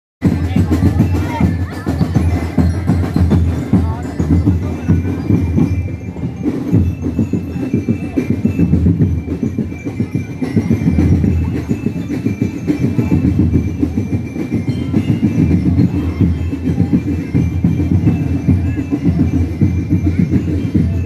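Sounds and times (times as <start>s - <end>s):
drum band pounding beat: 0.2s - 21.0s.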